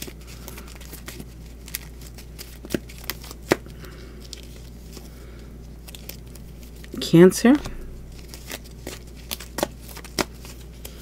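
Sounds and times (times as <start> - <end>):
cards being shuffled: 0.0 - 5.1, 5.8 - 11.0.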